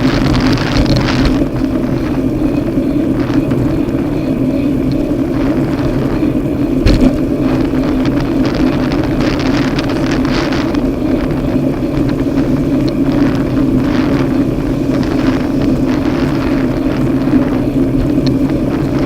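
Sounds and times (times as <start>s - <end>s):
vehicle engine droning: 0.0s - 19.0s
wind gusts on microphone: 0.0s - 19.0s.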